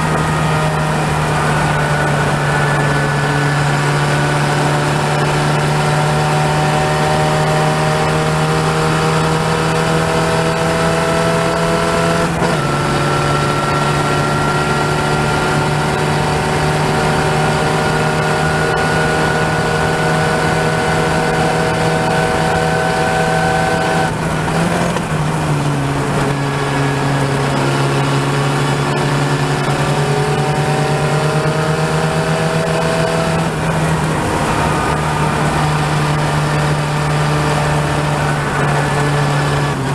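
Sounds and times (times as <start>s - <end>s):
gear changes: 0.0s - 39.9s
race car engine revving: 0.0s - 39.9s
wind and road noise: 0.0s - 39.9s.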